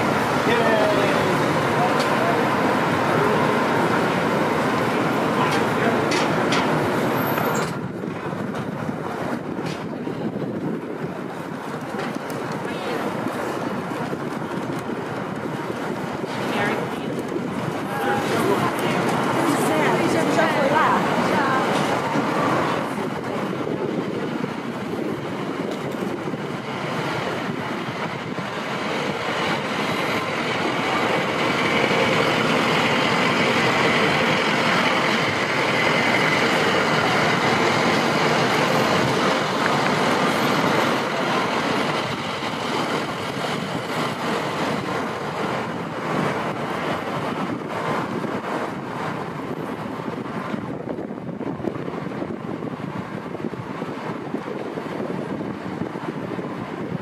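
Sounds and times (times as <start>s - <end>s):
street traffic: 0.0s - 57.0s
truck engine running close by: 0.0s - 57.0s.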